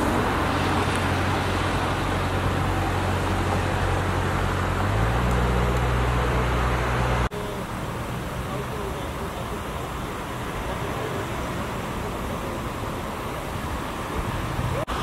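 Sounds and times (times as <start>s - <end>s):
low engine hum: 0.0s - 15.0s
truck engine drone: 0.0s - 15.0s
tyres hissing on wet road: 0.0s - 15.0s.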